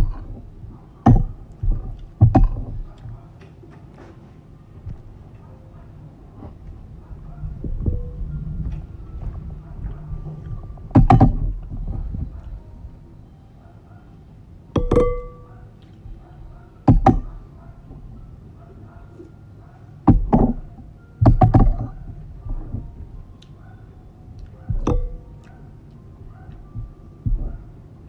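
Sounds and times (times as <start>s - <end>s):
quiet eating sounds: 0.0s - 13.1s, 15.0s - 20.0s, 21.8s - 27.8s.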